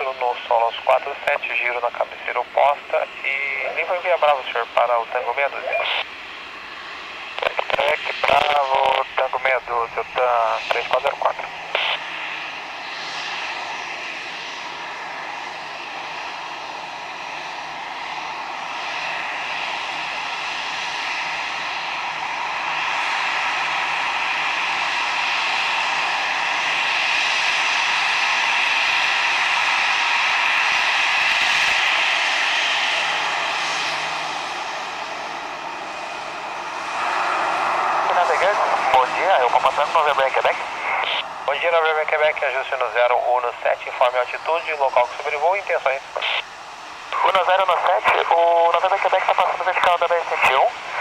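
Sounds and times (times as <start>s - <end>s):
jet engines whining: 0.0s - 51.0s.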